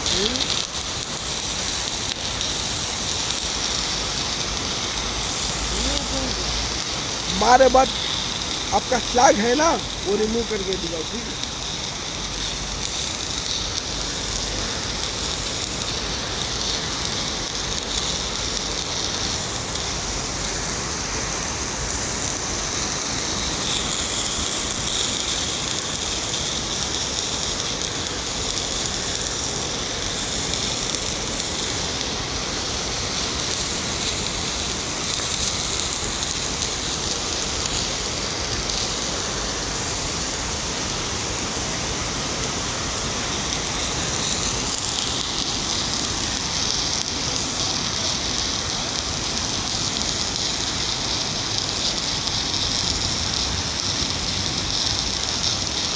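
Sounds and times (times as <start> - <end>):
welding arc crackling: 0.0 - 55.9.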